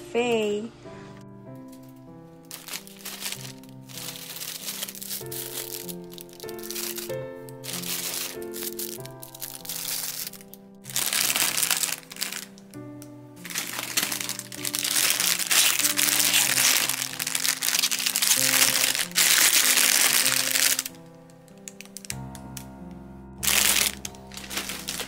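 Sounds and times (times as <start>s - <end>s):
background music with held notes: 0.0s - 25.0s
packaging crinkling and rustling: 1.7s - 12.8s, 13.4s - 22.6s, 23.4s - 25.0s.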